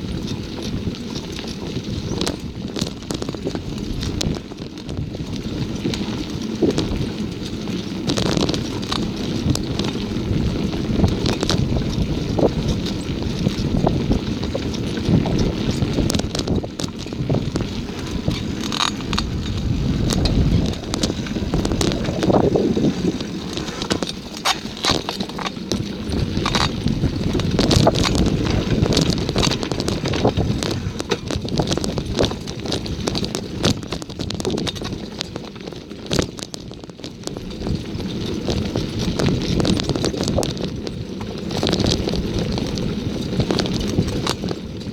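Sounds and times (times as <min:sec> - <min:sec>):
bicycle clicks and rattles: 0:00.0 - 0:44.9
tyre rumble: 0:00.0 - 0:44.9
wind buffeting microphone: 0:00.0 - 0:44.9.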